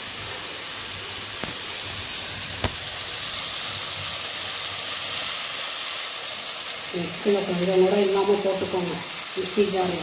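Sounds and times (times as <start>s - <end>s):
onion and tomato sizzling in a pan: 0.0s - 10.0s.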